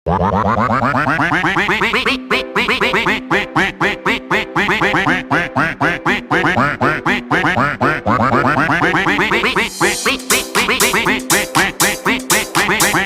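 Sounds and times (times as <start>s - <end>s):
rhythmic duck-like quacks: 0.1s - 13.0s.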